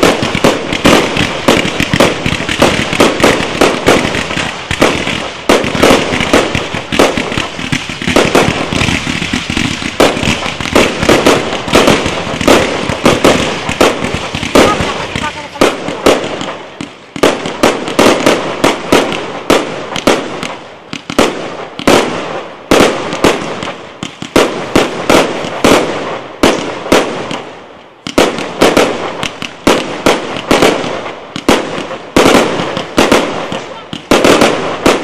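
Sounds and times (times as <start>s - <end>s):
continuous firework hiss: 0.0s - 35.0s
firework bursts and bangs: 0.0s - 35.0s.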